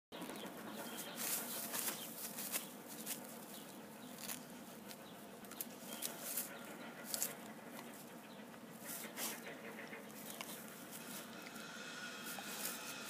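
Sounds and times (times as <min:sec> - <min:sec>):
dog paws scratching dry grass: 0:00.2 - 0:08.1, 0:08.7 - 0:11.4.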